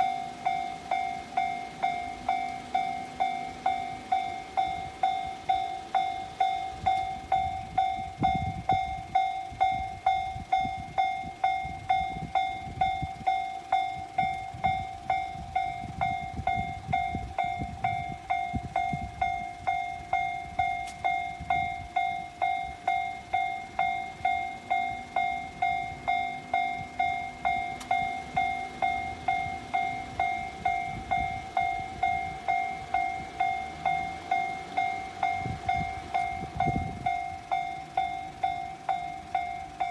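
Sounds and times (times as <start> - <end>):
level crossing warning bell: 0.0 - 39.9
passing train rumble: 0.0 - 39.9.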